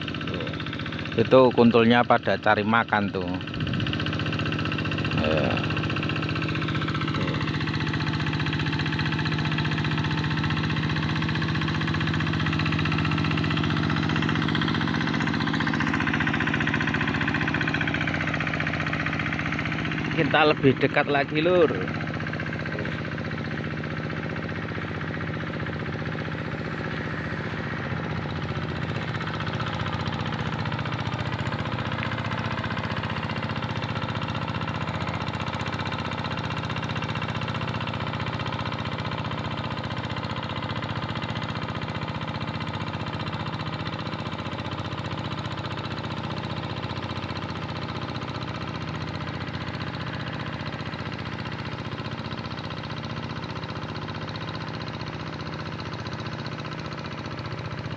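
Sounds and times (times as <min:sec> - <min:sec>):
tractor engine knocking: 0:00.0 - 0:57.9.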